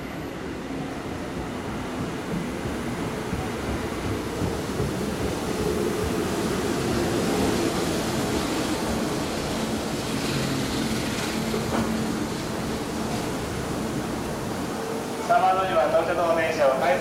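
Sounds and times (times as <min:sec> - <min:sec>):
train wheels rolling on rails: 0:00.4 - 0:17.0.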